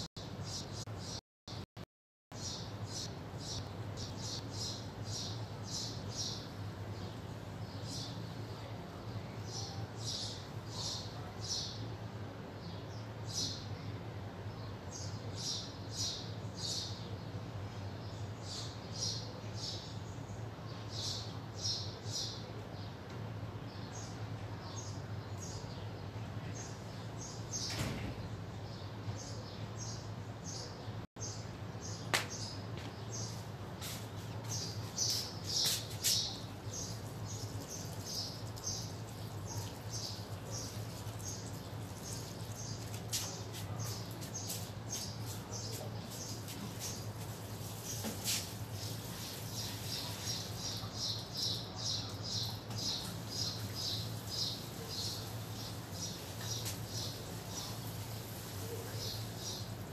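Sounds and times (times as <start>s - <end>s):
small birds chirping: 0.0s - 1.6s, 2.4s - 59.9s.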